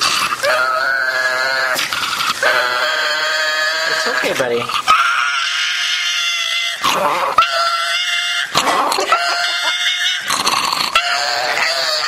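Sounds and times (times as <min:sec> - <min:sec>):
dog high-pitched cries: 0:00.4 - 0:10.3, 0:11.0 - 0:12.0.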